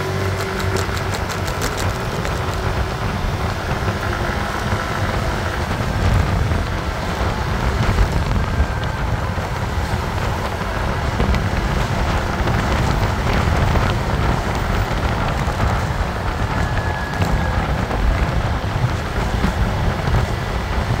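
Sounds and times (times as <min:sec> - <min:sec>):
road and vehicle noise: 0:00.0 - 0:21.0
wind rumble on microphone: 0:00.0 - 0:21.0.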